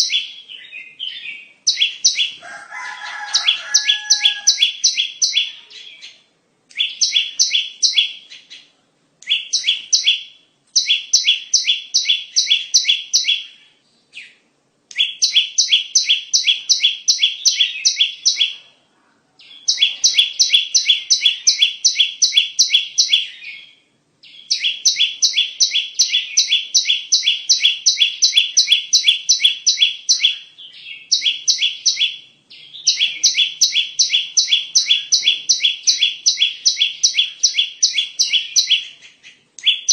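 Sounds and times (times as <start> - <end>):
bird calling sharp repeated notes: 0.0 - 6.1, 6.7 - 18.7, 19.6 - 39.9.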